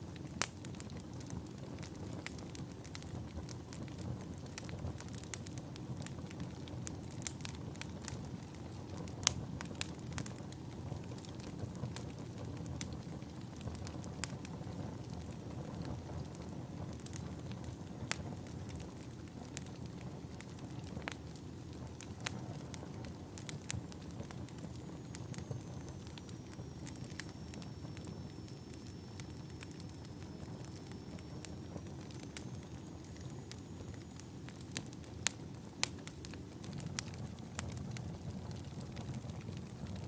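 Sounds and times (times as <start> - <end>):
fire crackles and pops: 0.0 - 40.0
low rumble of flames: 0.0 - 40.0.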